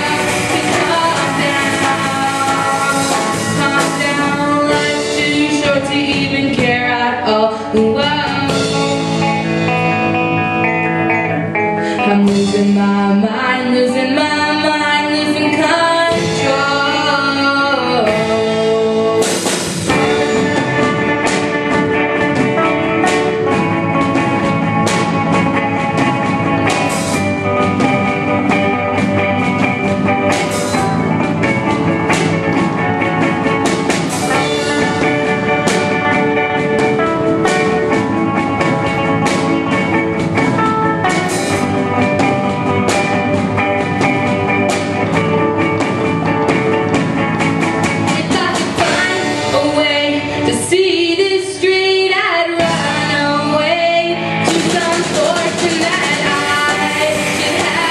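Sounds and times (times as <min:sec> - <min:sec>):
drum kit steady beat: 0:00.0 - 0:13.2, 0:14.5 - 0:50.6, 0:52.6 - 0:57.9
rock band playing instrumental: 0:00.0 - 0:57.9.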